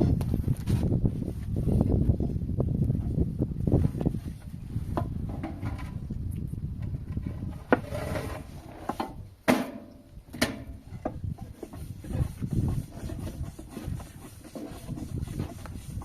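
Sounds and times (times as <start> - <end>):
low rumble of wind on microphone: 0.0 - 16.0.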